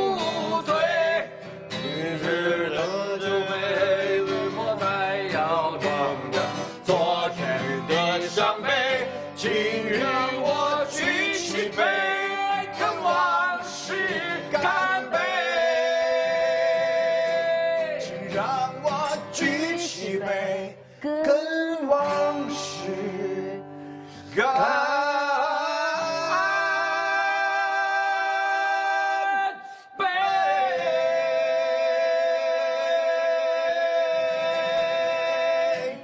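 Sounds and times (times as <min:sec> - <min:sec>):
guitar accompaniment: 0:00.0 - 0:36.0
man singing a slow ballad: 0:00.0 - 0:36.0.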